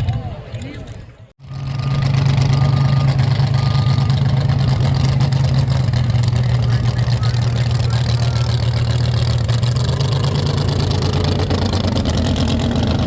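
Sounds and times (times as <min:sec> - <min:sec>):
tractor engine running steadily: 0:00.7 - 0:13.0.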